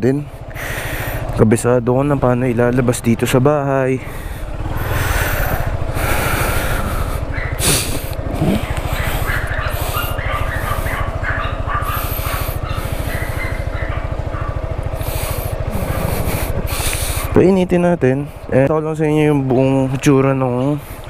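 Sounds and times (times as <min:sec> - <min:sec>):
scooter engine idling: 0:00.0 - 0:21.0.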